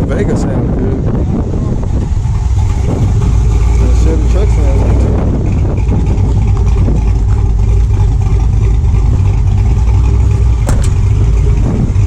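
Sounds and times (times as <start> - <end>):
engine idling with exhaust rumble: 0.0 - 12.0.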